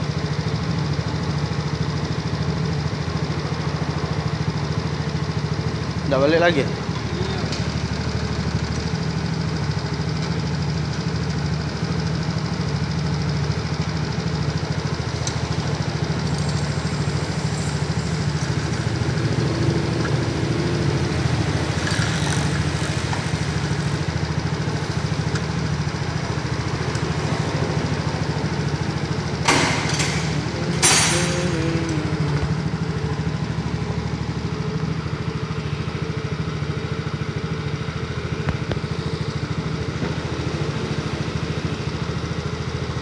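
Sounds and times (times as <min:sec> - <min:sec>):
scooter engine idling: 0:00.0 - 0:43.0.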